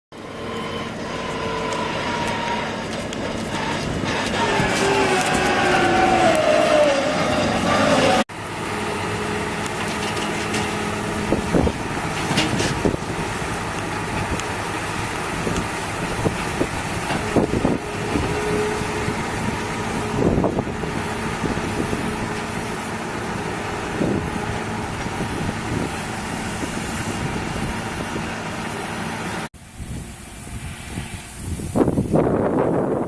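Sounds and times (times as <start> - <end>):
combine harvester mechanical drone: 0.2 - 33.0.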